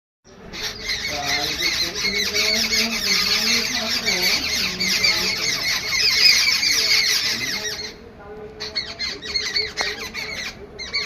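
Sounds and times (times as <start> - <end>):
birds chattering: 0.3 - 11.0.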